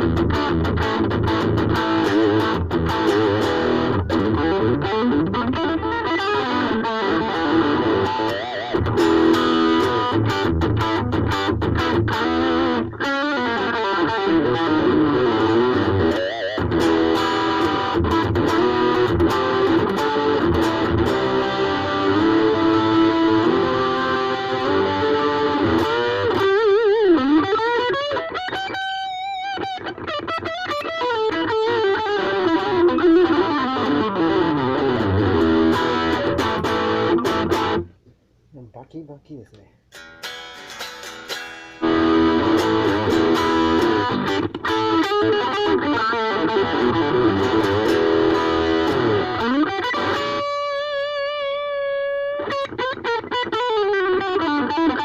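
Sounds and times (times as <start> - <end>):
distorted electric guitar riffs: 0.0 - 38.0, 39.9 - 55.0.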